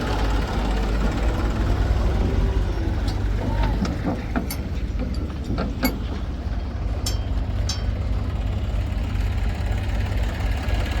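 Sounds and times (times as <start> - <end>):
diesel engine running at low revs: 0.0 - 11.0.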